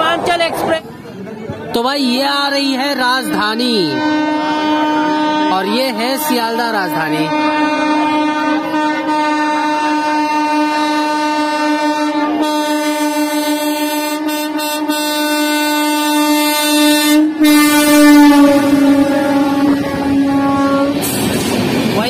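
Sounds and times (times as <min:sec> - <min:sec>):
rush of passing train: 0:00.0 - 0:22.0
locomotive horn blast: 0:03.2 - 0:21.3.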